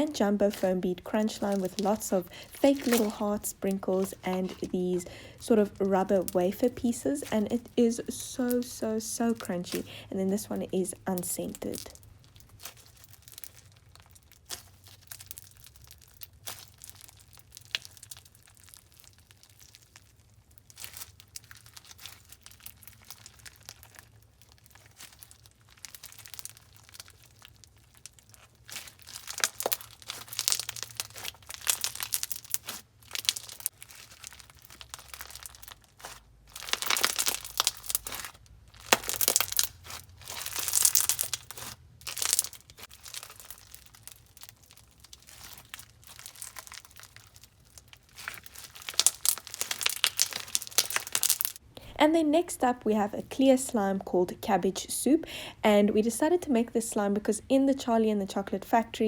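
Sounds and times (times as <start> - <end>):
foam bead slime crackling: 0.0 - 54.7.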